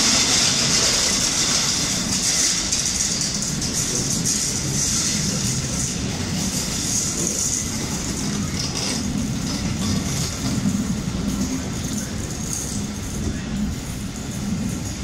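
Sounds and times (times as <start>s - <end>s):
railway carriages rolling past: 0.0s - 15.0s.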